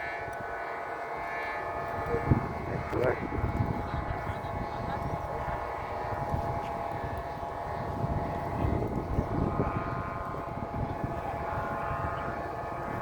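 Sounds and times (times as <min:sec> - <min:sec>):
bamboo flutes droning: 0:00.0 - 0:13.0
wind buffeting microphone: 0:00.0 - 0:13.0.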